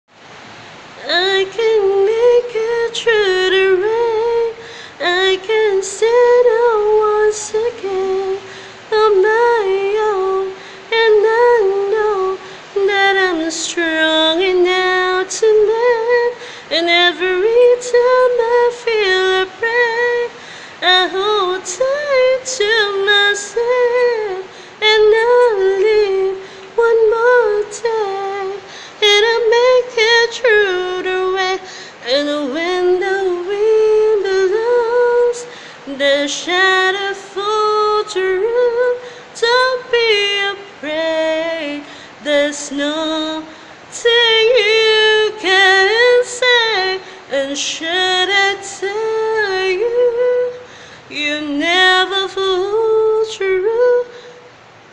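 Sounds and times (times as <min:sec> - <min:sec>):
woman singing solo: 0:00.9 - 0:54.6.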